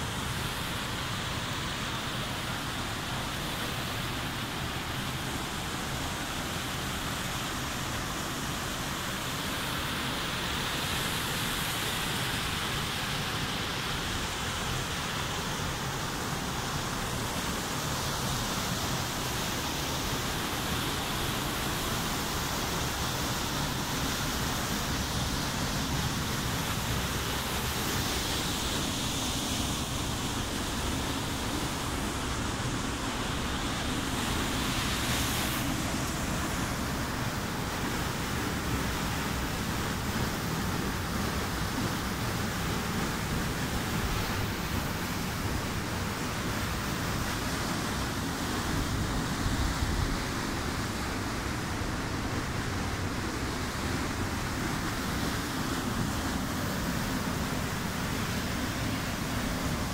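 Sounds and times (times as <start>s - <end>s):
waterfall pouring into pool: 0.0s - 49.6s, 50.2s - 59.9s.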